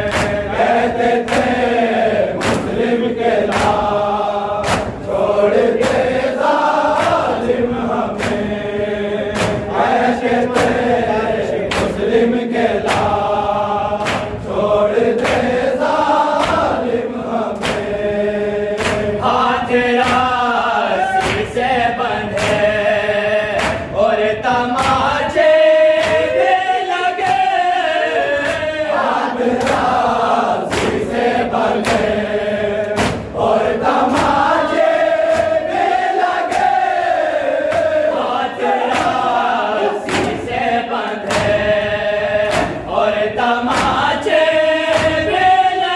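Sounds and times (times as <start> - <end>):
palms slapping chests: 0.0 - 20.4, 21.0 - 22.8, 23.5 - 24.0, 24.7 - 45.5
men chanting together: 0.0 - 45.9.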